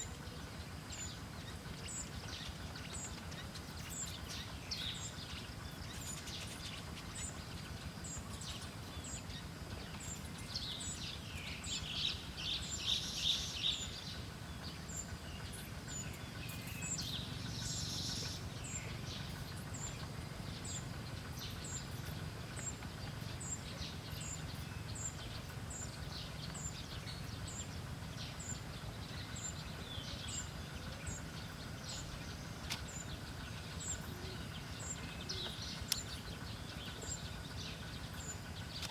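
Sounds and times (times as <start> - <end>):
low background rumble: 0.0 - 38.9
small birds chirping: 0.0 - 38.9.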